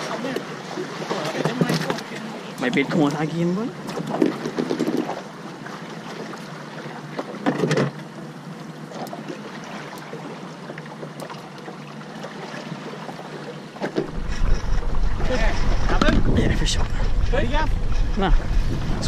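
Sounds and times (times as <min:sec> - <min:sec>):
light wind: 0:00.0 - 0:19.0
sea washing: 0:00.0 - 0:19.0.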